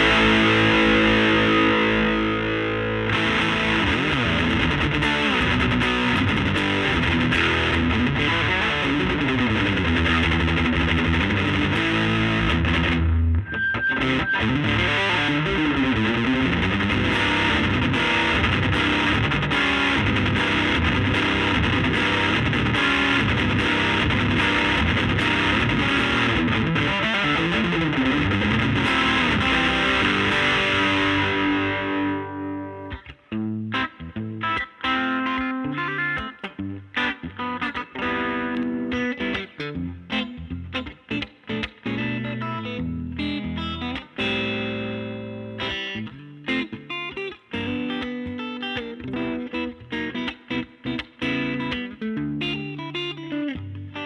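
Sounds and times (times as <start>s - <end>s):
distorted electric guitar riffs: 0.0s - 54.0s.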